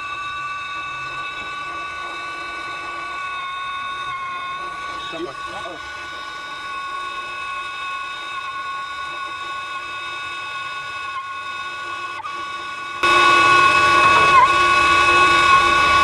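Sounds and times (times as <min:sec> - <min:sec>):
high gas whistle: 0:00.0 - 0:16.0.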